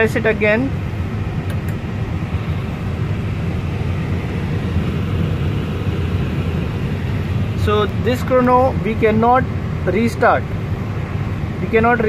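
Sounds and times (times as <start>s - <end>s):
air-conditioning and equipment rumble: 0.0s - 12.0s.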